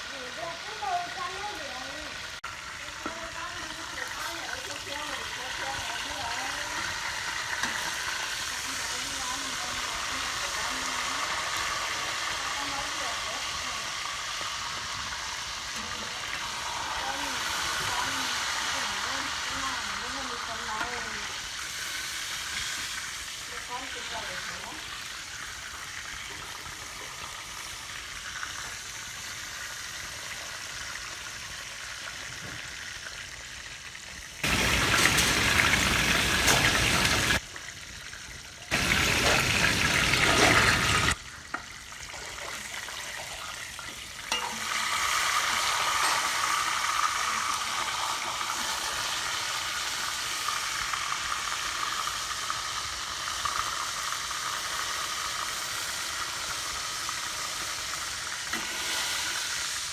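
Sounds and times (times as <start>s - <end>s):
deep-frying sizzle: 0.0s - 59.9s.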